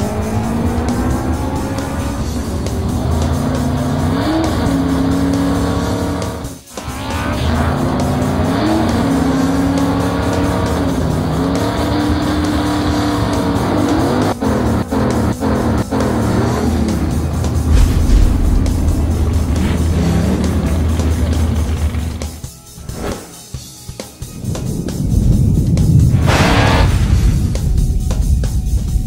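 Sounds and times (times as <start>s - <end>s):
cartoon car engine revving: 0.0s - 22.4s, 25.9s - 27.5s
background music: 0.0s - 29.0s.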